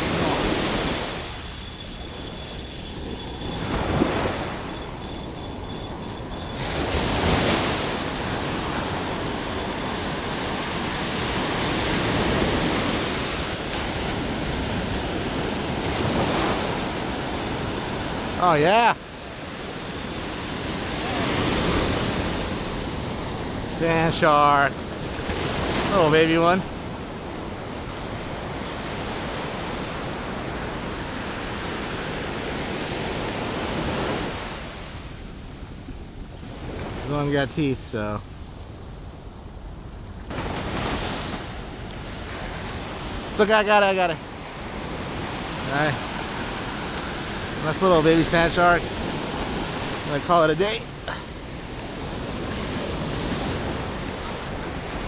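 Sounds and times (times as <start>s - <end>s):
ocean surf breaking: 0.0s - 39.4s, 40.2s - 55.0s.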